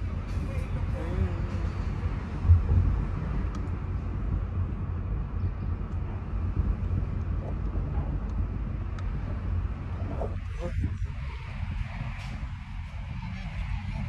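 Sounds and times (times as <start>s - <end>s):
car low rumble: 0.0s - 14.0s.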